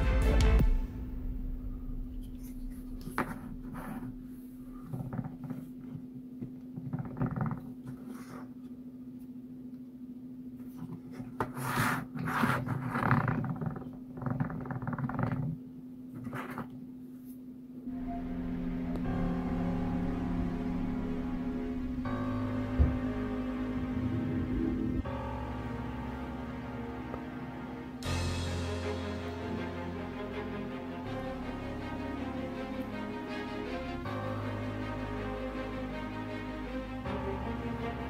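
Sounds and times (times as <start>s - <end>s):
low steady hum: 0.6s - 38.0s.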